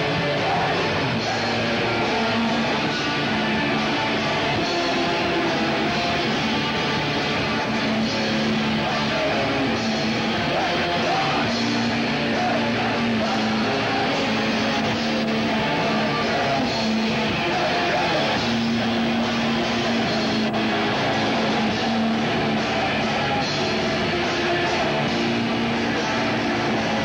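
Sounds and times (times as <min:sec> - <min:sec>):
drums: 0:00.0 - 0:27.0
electric guitar: 0:00.0 - 0:27.0.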